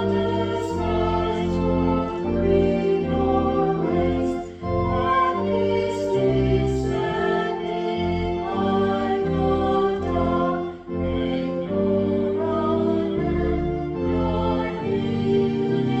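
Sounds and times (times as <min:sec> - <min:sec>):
organ-like chords: 0:00.0 - 0:16.0
people singing a hymn: 0:00.0 - 0:16.0.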